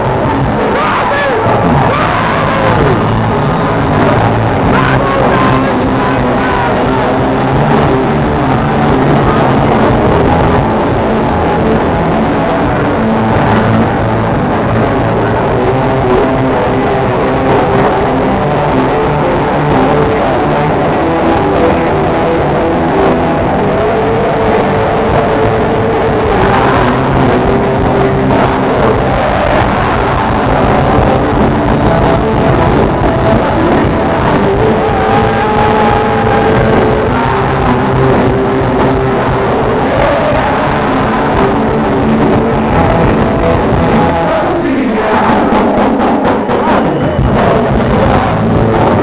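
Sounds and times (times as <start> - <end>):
live band music through a pa: 0.0 - 49.0.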